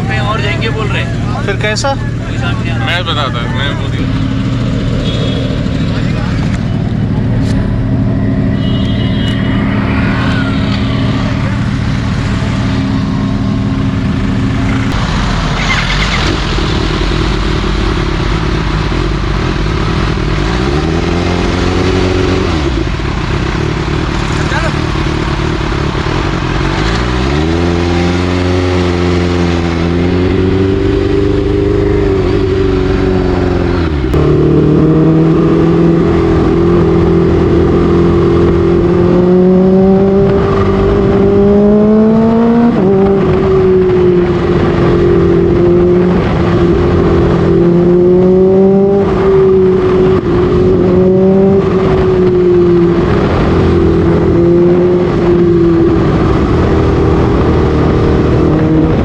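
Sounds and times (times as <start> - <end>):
motorcycle engine revving while riding: 10.4 - 59.0.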